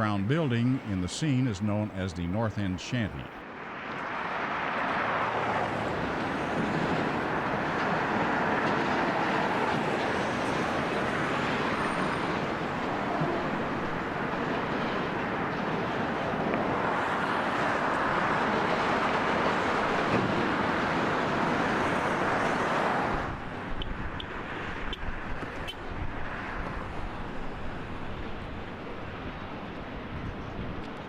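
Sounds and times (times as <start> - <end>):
rolling noise of vehicles: 0.0 - 31.0.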